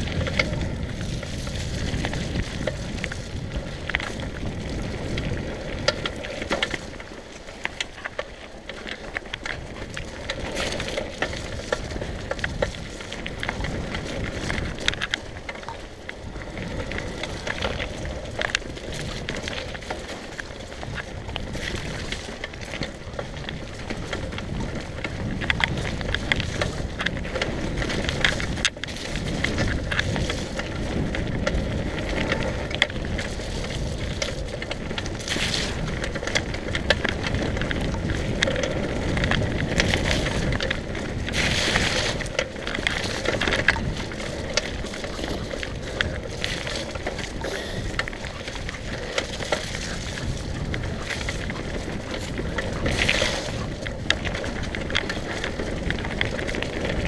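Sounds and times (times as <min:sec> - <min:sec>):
bike rattling over bumps: 0:00.0 - 0:57.0
bike tyres on dirt trail: 0:00.0 - 0:57.0.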